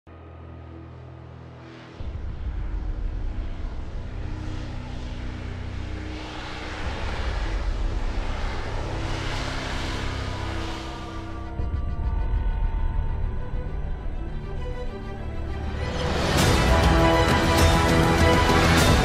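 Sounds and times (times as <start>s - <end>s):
droning music: 0.1s - 19.0s
jet engine rumble: 1.7s - 19.0s.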